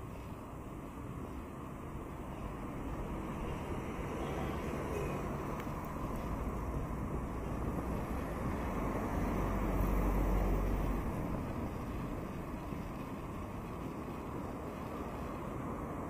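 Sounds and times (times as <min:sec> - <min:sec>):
street traffic rumble: 0:00.0 - 0:16.0
vehicle passing close: 0:02.0 - 0:16.0.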